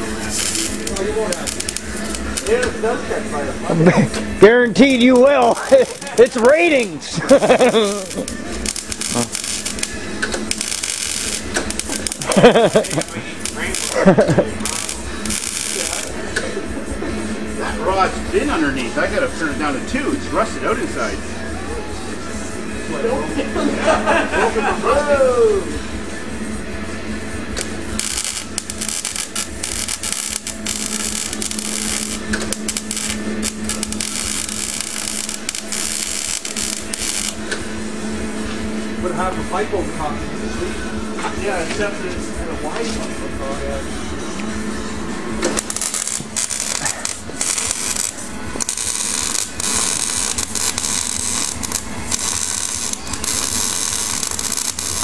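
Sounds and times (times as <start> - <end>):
arc welder crackling and hissing: 0.0 - 21.2, 24.4 - 40.2, 41.0 - 55.0
steady hum: 0.0 - 55.0.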